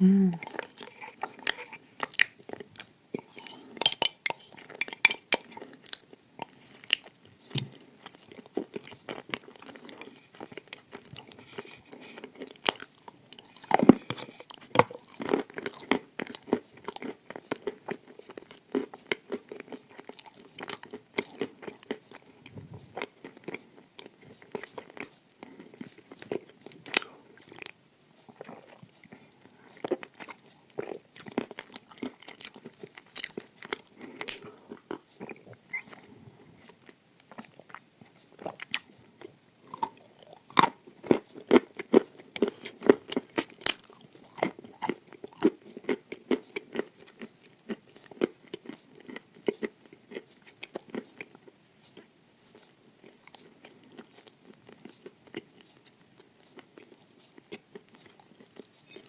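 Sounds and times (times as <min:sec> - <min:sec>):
chewing crunchy cookie: 0:00.4 - 0:59.0.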